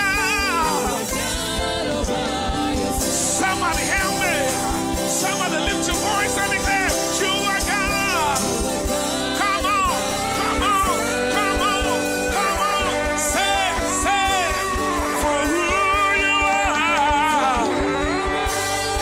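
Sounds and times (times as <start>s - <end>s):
band playing: 0.0s - 19.0s
person singing: 0.0s - 19.0s.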